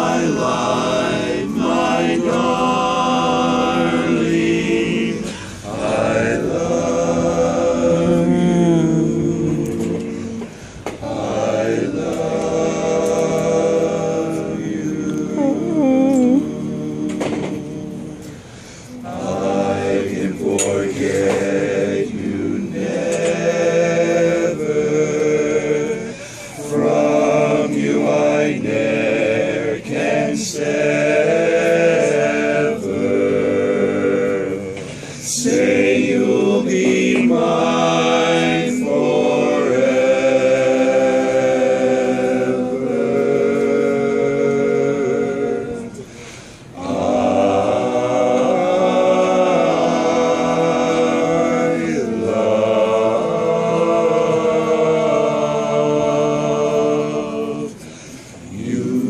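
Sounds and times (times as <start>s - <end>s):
men singing a cappella harmony: 0.0s - 59.0s.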